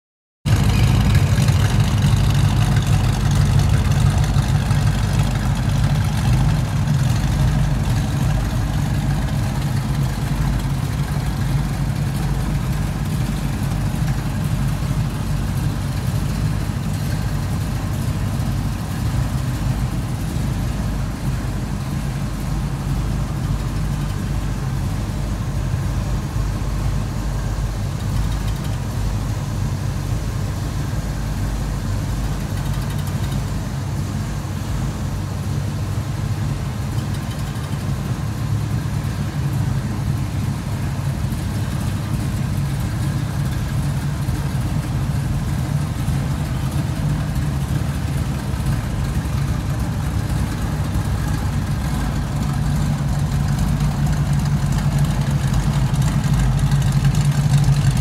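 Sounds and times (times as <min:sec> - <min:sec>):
car engine idling: 0:00.4 - 0:58.0.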